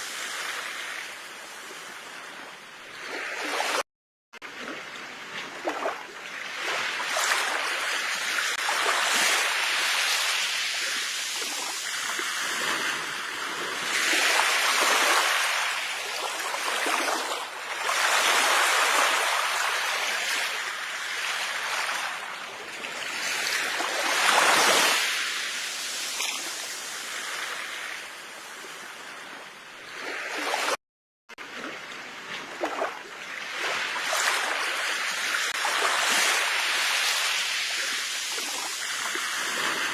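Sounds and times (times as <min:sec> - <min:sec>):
sea waves breaking on shore: 0:00.0 - 0:03.8, 0:04.4 - 0:39.9.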